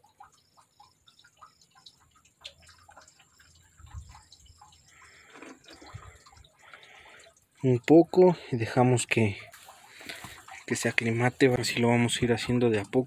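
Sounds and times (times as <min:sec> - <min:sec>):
water trickling into bucket: 0:00.0 - 0:13.0.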